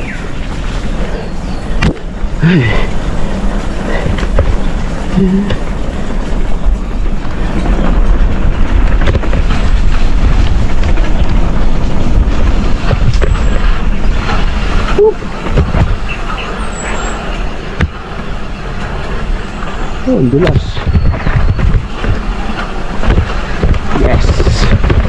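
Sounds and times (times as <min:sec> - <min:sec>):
mountain bike rattling and bumping: 0:00.0 - 0:25.0
wind rush on microphone: 0:00.0 - 0:25.0.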